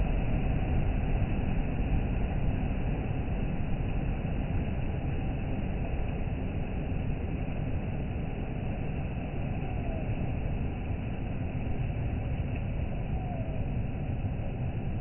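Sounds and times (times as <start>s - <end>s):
sea and wind rushing: 0.0s - 15.0s.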